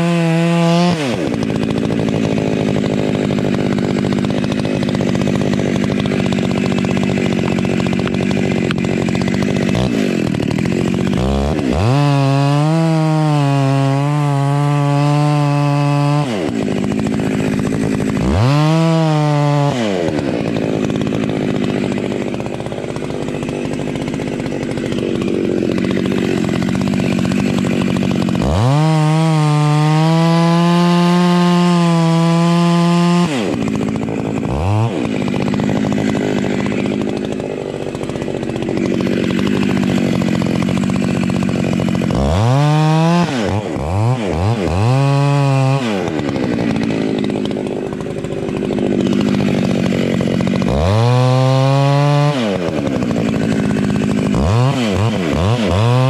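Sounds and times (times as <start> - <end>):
chainsaw sawing through trunk: 0.0 - 56.0.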